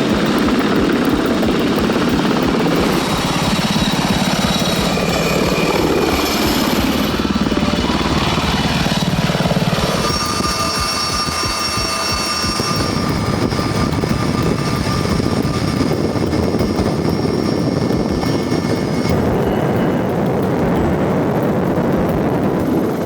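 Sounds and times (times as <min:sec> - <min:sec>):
helicopter rotor chop: 0:00.0 - 0:23.0
high turbine whine: 0:00.0 - 0:23.0.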